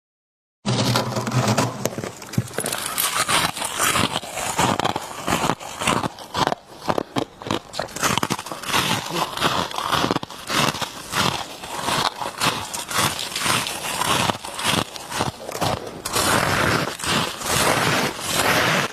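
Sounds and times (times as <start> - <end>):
frost crunching when chewed: 2.0 - 18.9.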